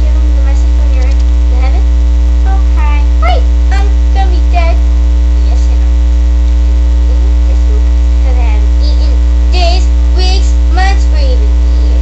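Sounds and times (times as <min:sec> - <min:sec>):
loud electrical hum: 0:00.0 - 0:12.0.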